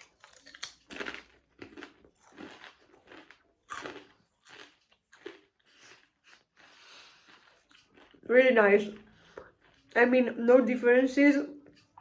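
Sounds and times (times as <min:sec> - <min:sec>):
person chewing crunchy snack: 0:00.0 - 0:10.0.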